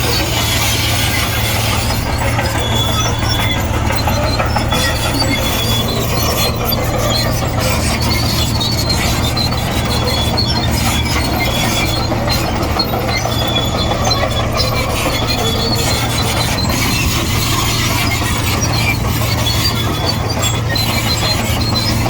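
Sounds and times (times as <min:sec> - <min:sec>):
bulldozer diesel engine running: 0:00.0 - 0:22.0
steel tracks squealing: 0:00.0 - 0:22.0.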